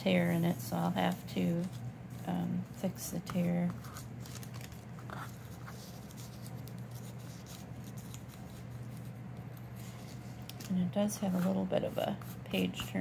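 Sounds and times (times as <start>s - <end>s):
paper rustling: 0.2s - 13.0s.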